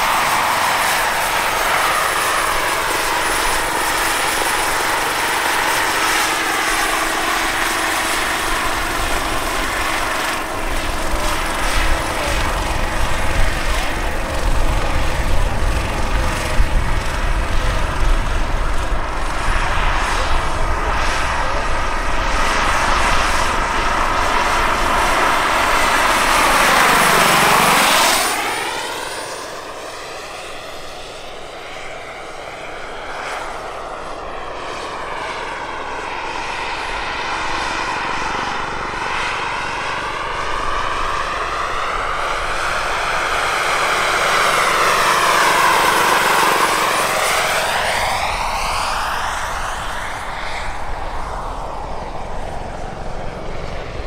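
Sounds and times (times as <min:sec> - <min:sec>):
helicopter rotor beat: 0:00.0 - 0:54.0
high-pitched turbine whine: 0:00.0 - 0:54.0.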